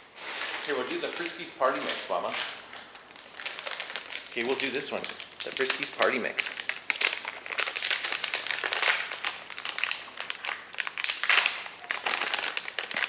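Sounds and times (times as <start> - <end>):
treat pouch crinkling: 0.2 - 13.0.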